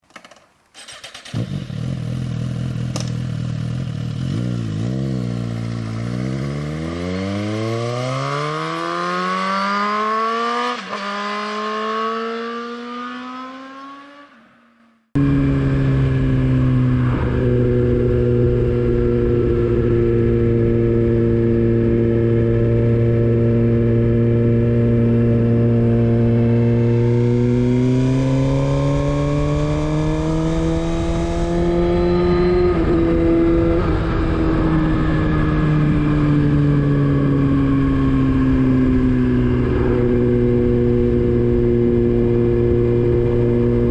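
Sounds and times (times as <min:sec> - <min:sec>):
motorcycle engine: 0:00.0 - 0:43.9.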